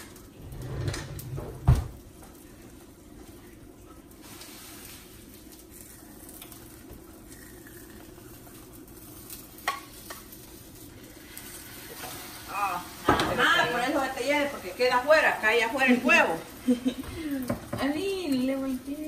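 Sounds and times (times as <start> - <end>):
vegetables sizzling in frying pan: 2.0 - 19.0.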